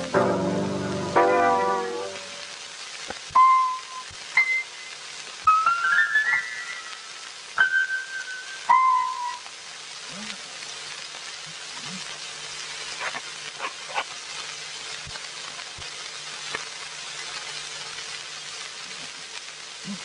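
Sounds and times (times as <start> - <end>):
film soundtrack hiss and crackle: 0.0 - 20.0.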